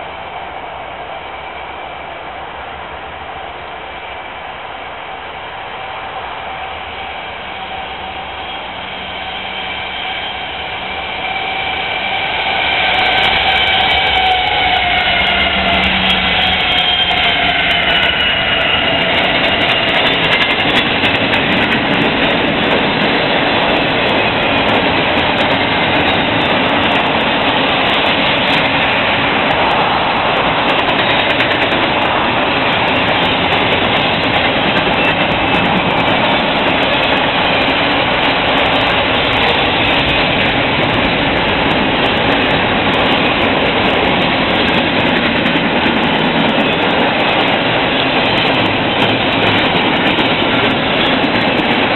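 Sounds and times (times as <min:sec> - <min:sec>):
freight train rumbling past: 0:00.0 - 0:51.9.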